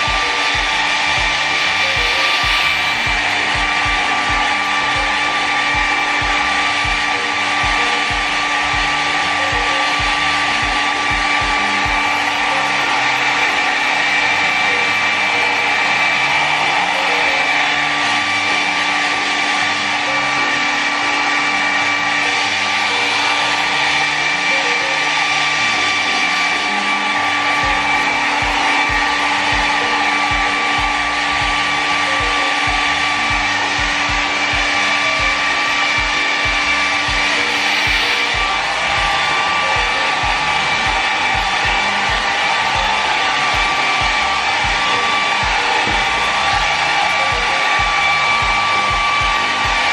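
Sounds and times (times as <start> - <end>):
hair dryer running: 0.0 - 49.9.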